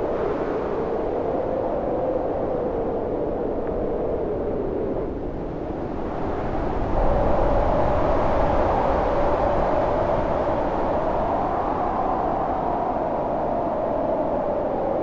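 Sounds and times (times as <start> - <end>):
storm wind howling: 0.0 - 15.0.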